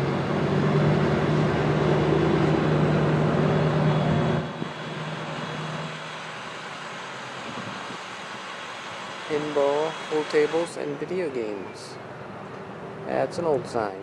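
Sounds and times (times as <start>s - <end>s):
vehicle engine running: 0.0s - 11.5s
street hum: 0.0s - 14.0s.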